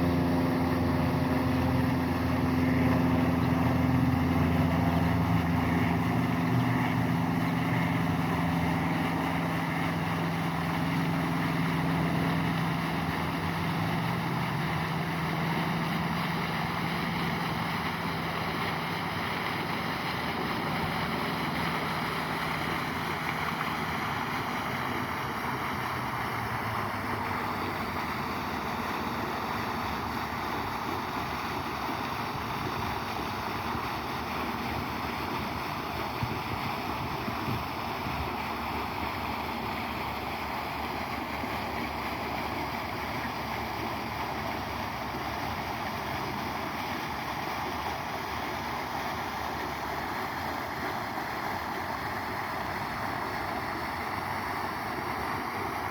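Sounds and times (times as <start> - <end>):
motor humming: 0.0 - 47.8
continuous rushing noise: 0.0 - 55.9.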